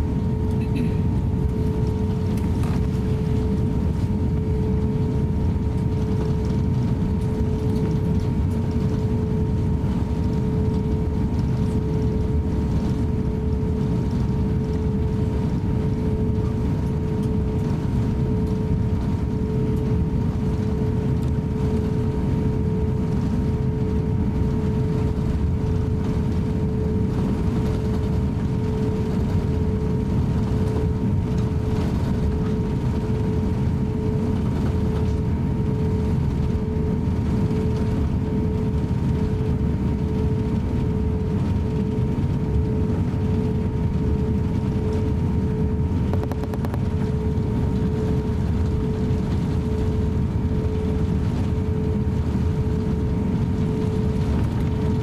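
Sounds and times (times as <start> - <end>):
aircraft engines idling rumble: 0.0 - 55.0
mid-pitched cabin hum: 0.0 - 55.0.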